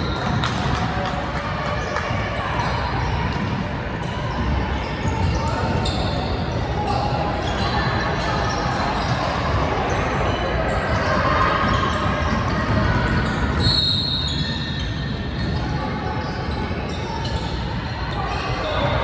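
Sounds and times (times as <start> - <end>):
sneakers squeaking: 0.0 - 19.0
spectators' voices: 0.0 - 19.0.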